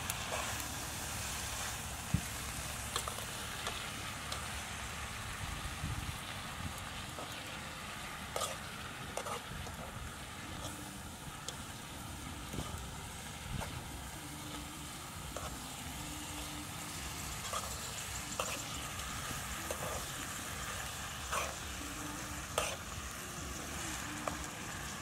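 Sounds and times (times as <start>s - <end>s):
food sizzling in a pot: 0.0s - 25.0s.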